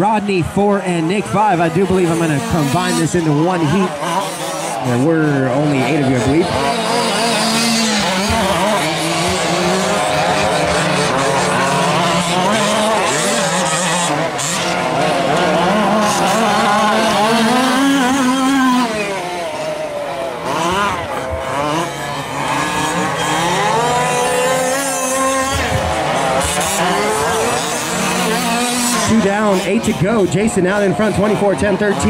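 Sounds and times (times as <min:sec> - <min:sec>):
small two-stroke engines revving: 0:00.0 - 0:32.0.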